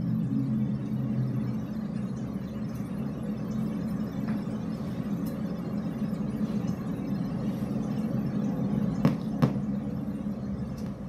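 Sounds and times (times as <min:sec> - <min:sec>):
low ambient rumble: 0:00.0 - 0:11.0.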